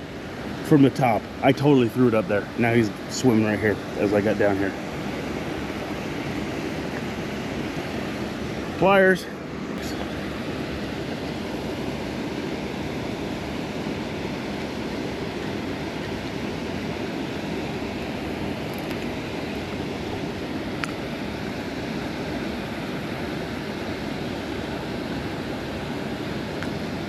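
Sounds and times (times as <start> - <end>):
water rushing over spillway: 0.0 - 27.0.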